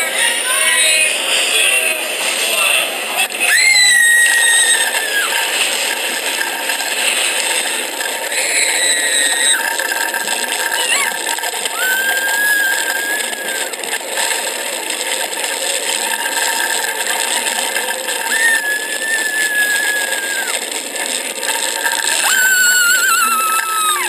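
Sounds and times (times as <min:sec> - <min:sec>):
roller coaster rattling: 0:00.0 - 0:24.0
people screaming: 0:03.2 - 0:24.0.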